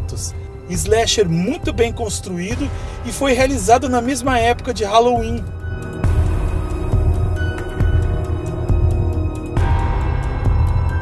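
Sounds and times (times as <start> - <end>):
music with deep beat: 0.0 - 11.0.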